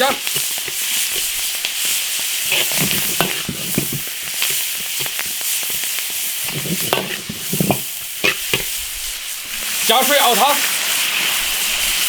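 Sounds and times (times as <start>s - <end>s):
spatula scraping a wok: 0.0s - 12.0s
vegetables sizzling in hot oil: 0.0s - 12.0s.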